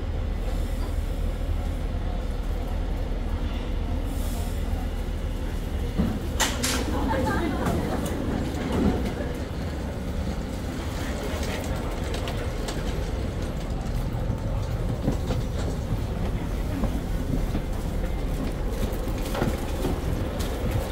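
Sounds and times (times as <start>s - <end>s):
train rumbling on track: 0.0s - 20.9s.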